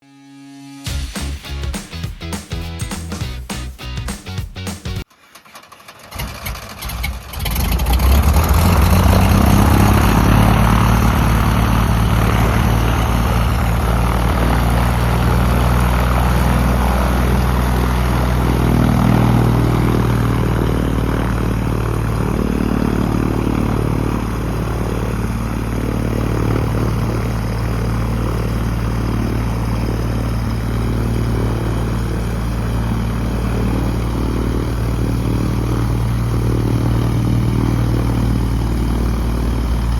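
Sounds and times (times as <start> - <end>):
propeller aircraft engine starting: 3.8 - 39.9.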